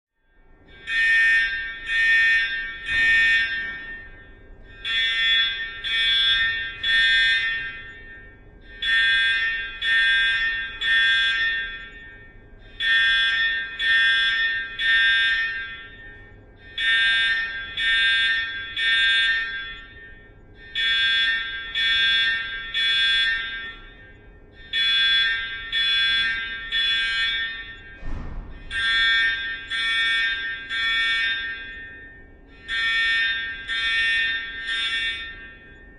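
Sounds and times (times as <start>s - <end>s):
fire alarm tones: 0.2s - 35.9s.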